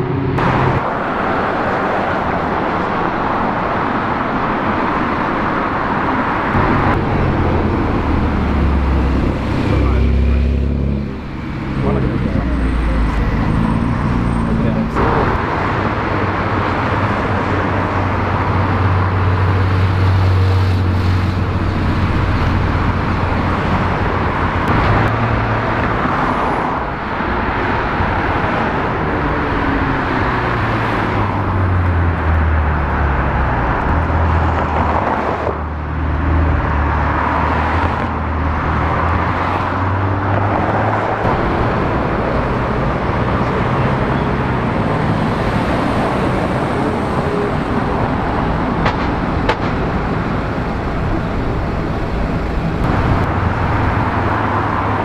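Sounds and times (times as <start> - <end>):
car engine hum: 0.0 - 55.0
road traffic noise: 0.0 - 55.0.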